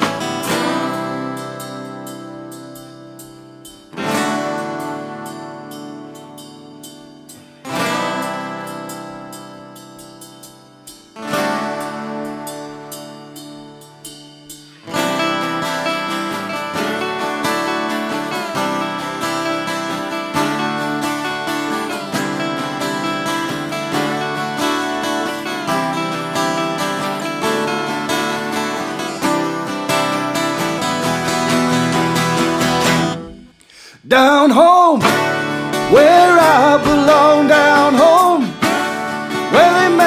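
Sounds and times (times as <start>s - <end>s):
acoustic guitar strumming: 0.0s - 40.0s.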